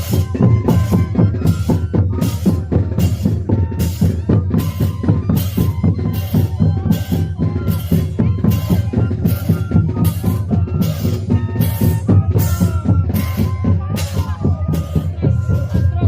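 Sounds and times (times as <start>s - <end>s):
cane flutes playing sliding notes: 0.0s - 16.0s.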